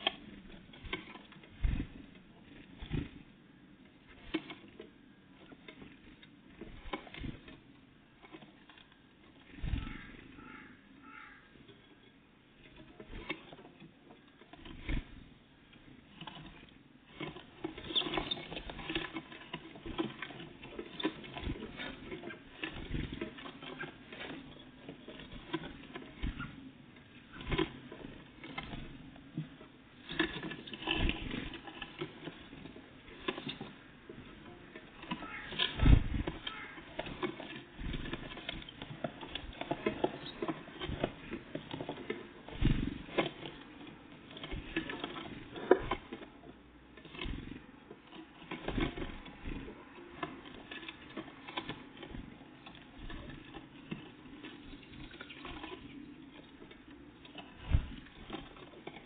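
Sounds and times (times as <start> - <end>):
birds pecking and scratching: 0.0 - 59.0.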